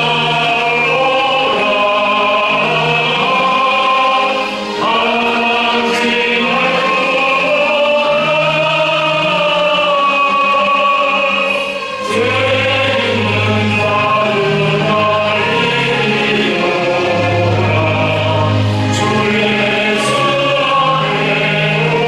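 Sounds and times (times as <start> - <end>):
church choir singing: 0.0 - 22.0
orchestral accompaniment: 0.0 - 22.0.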